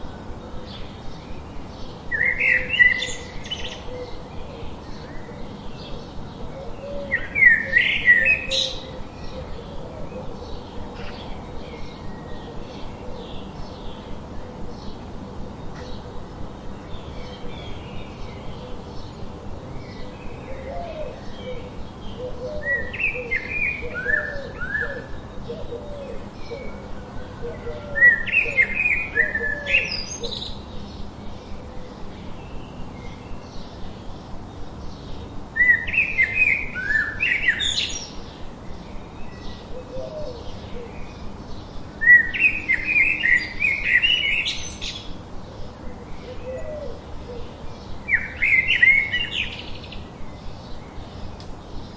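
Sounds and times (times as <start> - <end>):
bird warbling song: 0.0 - 16.1, 16.8 - 51.9
lower repeated bird calls: 0.0 - 51.9.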